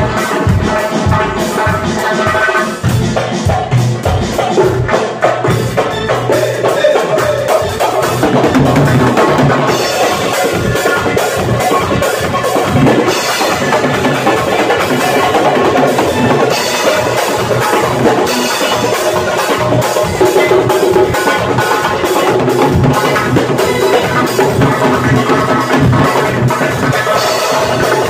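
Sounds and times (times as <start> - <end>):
frame drums and drum kit: 0.0 - 28.0.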